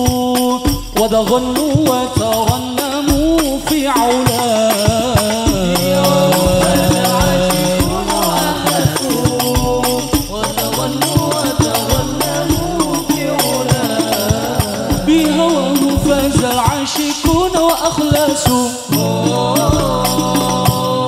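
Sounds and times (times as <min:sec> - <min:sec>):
hand-played frame drum: 0:00.0 - 0:21.0
voices singing devotional song: 0:00.0 - 0:21.0.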